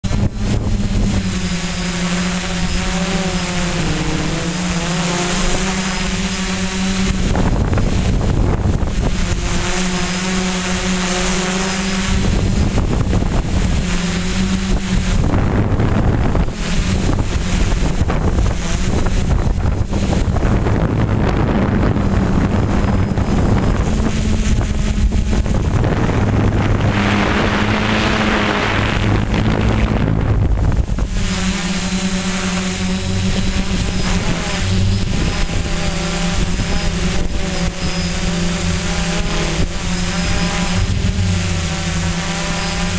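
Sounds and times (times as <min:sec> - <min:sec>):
quadcopter motors buzzing: 0:00.0 - 0:42.9
wind rushing on microphone: 0:00.0 - 0:42.9.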